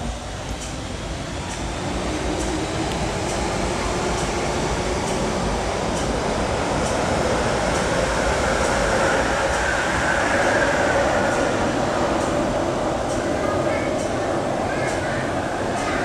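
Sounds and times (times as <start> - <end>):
train rail rumble: 0.0 - 16.0
train whine: 0.0 - 16.0.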